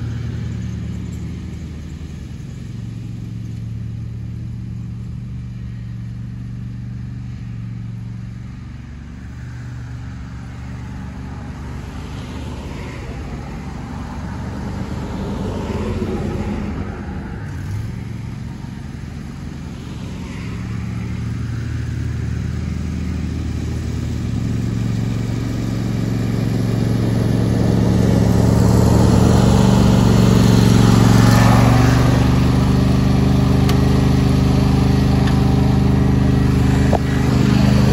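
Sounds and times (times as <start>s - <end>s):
riding mower engine running: 0.0s - 37.9s.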